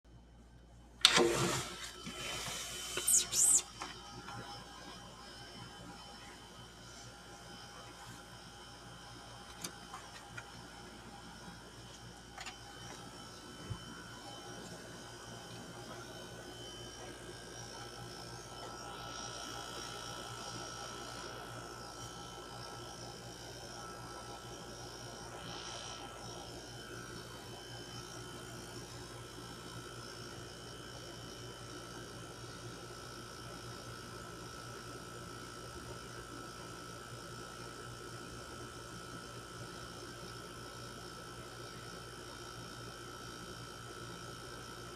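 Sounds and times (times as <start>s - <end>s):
air conditioner hum: 0.1s - 44.9s.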